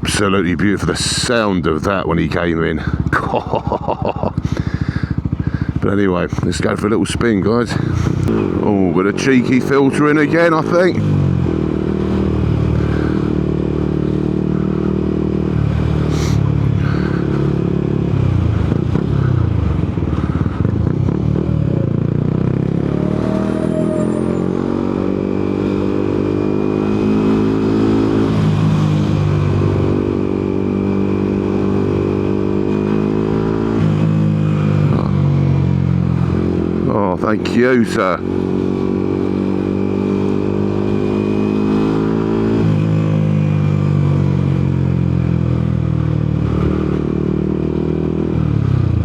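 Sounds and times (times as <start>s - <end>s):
motorcycle engine revving: 2.8s - 36.9s, 38.2s - 49.0s.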